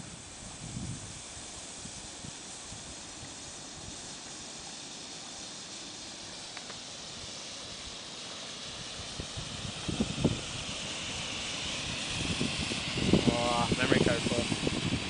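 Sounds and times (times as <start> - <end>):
smoke bomb hissing: 0.0 - 15.0.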